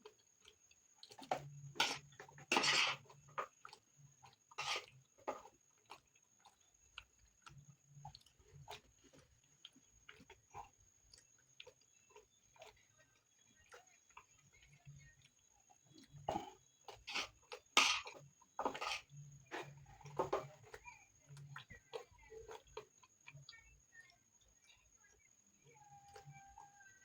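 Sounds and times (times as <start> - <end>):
chewing with wet mouth clicks: 0.0 - 27.0
louder eating bursts: 1.0 - 12.9, 13.6 - 23.5.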